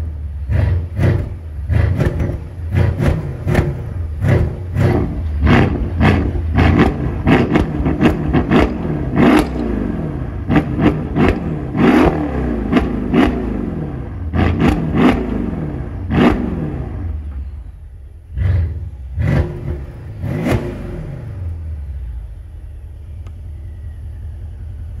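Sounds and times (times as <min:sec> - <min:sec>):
car engine revving in blips: 0:00.0 - 0:17.5, 0:18.2 - 0:22.0
car engine idling: 0:00.0 - 0:25.0.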